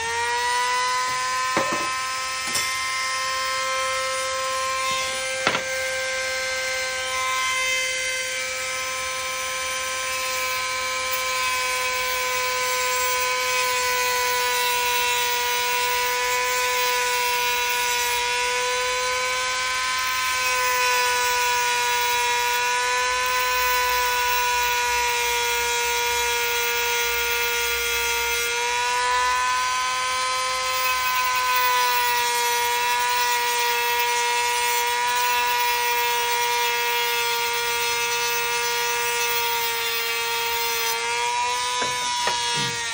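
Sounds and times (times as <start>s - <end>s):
rotary tool cutting metal: 0.0s - 42.9s.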